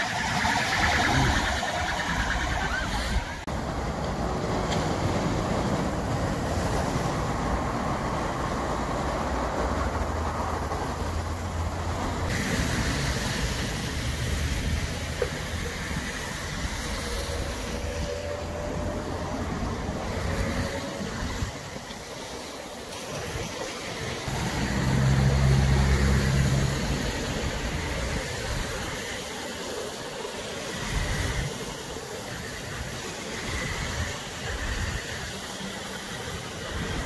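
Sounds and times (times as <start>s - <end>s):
tyres hissing on wet road: 2.6s - 37.0s.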